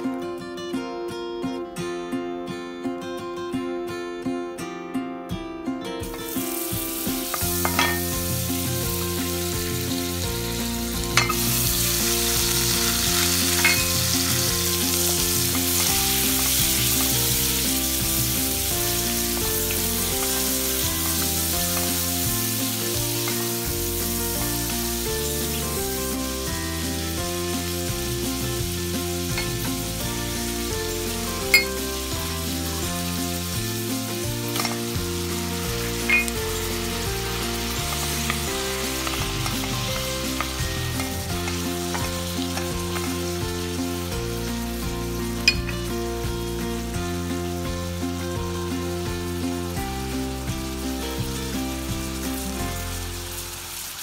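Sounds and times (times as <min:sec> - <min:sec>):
onion sizzling in hot oil: 0:06.0 - 0:54.0.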